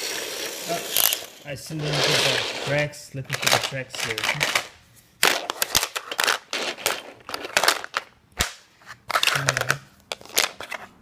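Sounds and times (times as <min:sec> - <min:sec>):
plastic track pieces clattering: 0:00.0 - 0:10.9.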